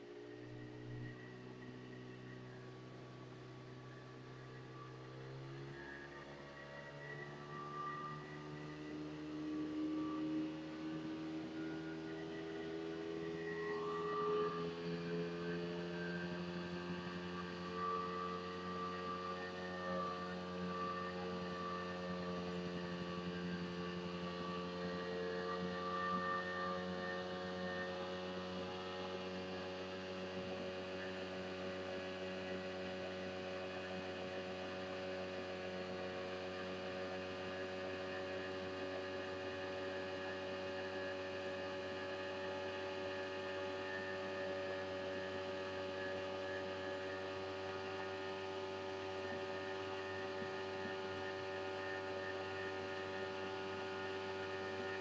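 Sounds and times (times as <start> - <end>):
outboard motor droning: 0.0 - 55.0.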